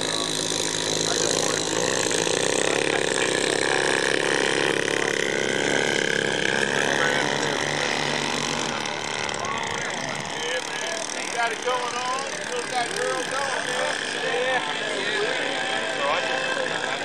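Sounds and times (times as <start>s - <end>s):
model plane engine drone: 0.0s - 17.0s.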